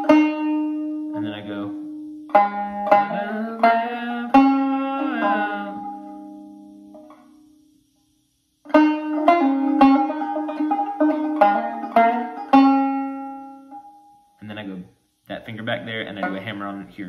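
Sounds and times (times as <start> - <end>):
banjo notes plucked: 0.0 - 7.3, 8.7 - 14.7, 15.4 - 17.0.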